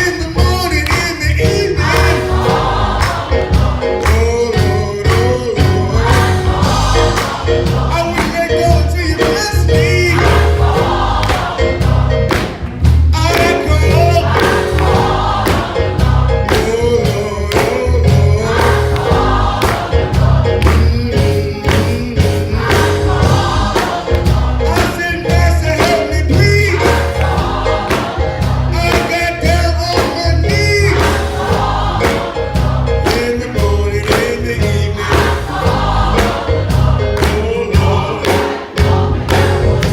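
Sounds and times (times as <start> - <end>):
choir singing in harmony: 1.4 - 39.9.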